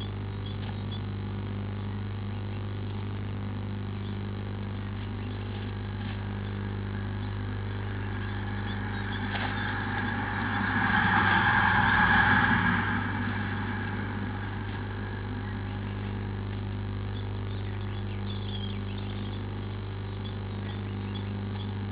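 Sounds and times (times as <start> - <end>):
low electrical hum: 0.0 - 21.9.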